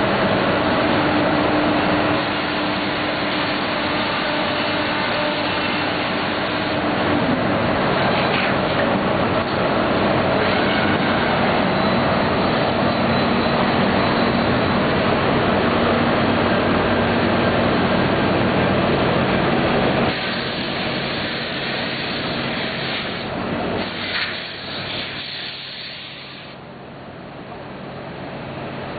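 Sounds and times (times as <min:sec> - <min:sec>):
machine running with hum: 0:00.0 - 0:28.9.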